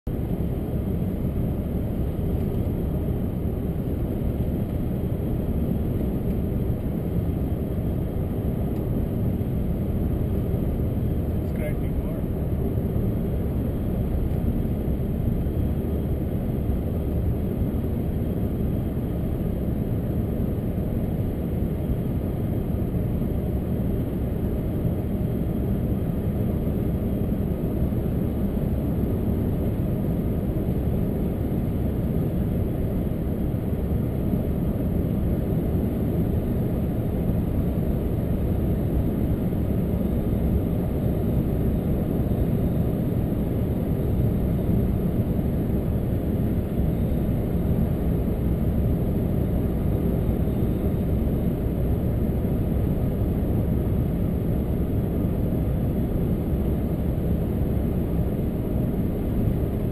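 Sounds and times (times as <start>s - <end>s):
road and engine rumble in car: 0.0s - 59.9s.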